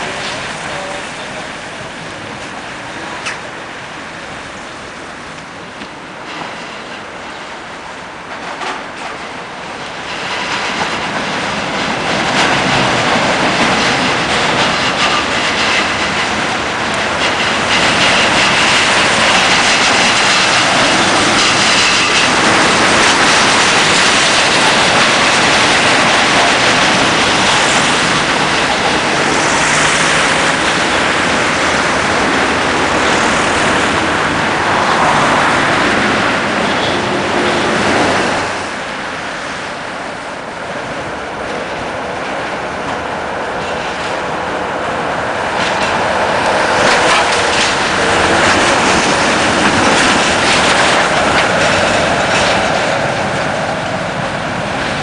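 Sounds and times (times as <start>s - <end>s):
tram wheels rumbling and clacking: 0.0s - 55.0s.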